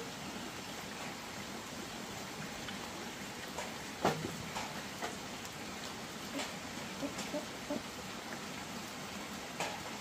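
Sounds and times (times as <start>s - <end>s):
rain-like hiss: 0.0s - 10.0s.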